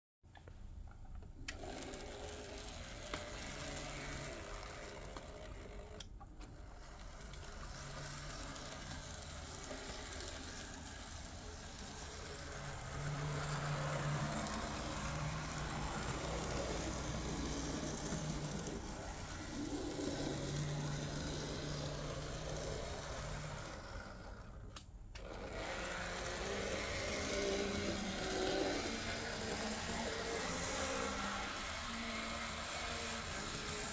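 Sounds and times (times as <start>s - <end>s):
model train motor whirring: 1.4s - 33.9s.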